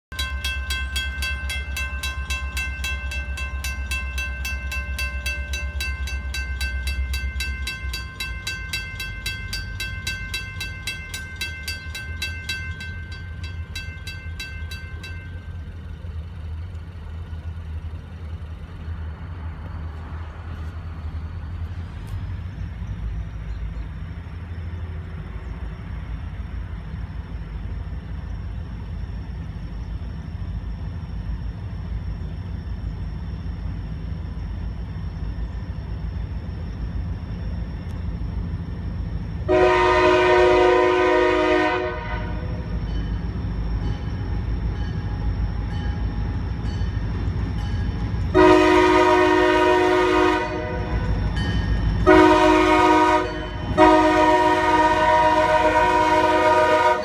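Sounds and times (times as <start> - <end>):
railroad crossing bell ringing: 0.0 - 18.8, 26.8 - 57.0
diesel train rumble: 0.0 - 57.0.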